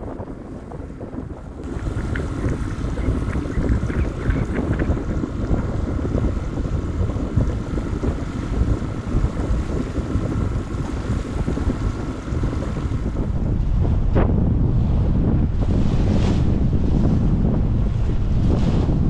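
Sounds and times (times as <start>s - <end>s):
water splashing along hull: 0.0s - 19.0s
wind buffeting microphone: 0.0s - 19.0s.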